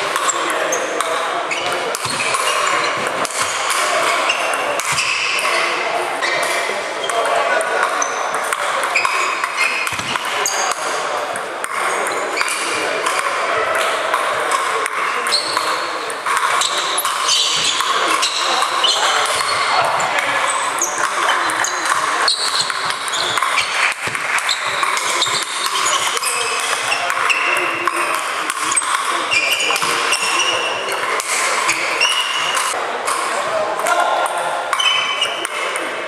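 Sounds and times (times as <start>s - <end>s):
table tennis balls pinging: 0.0s - 36.0s.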